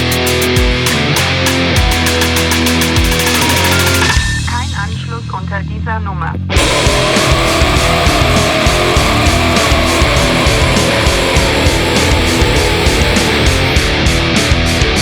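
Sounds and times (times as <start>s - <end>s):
heavy rock band playing: 0.0s - 4.2s, 6.6s - 15.0s.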